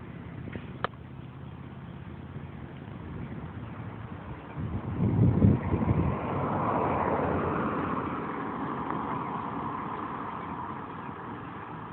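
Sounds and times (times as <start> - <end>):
motorcycle engine rumble: 0.0 - 11.9
road and wind noise: 0.0 - 11.9.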